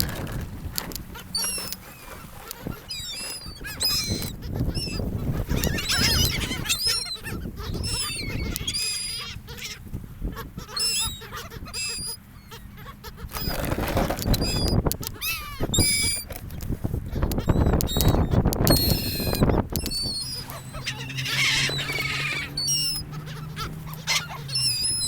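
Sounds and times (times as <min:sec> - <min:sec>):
seagulls calling: 0:00.8 - 0:25.0.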